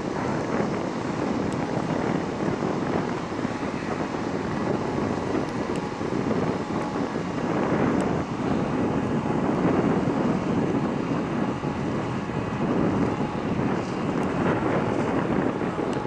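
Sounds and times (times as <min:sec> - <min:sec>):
ferry engine running: 0:00.0 - 0:16.0
wind on microphone: 0:00.0 - 0:16.0.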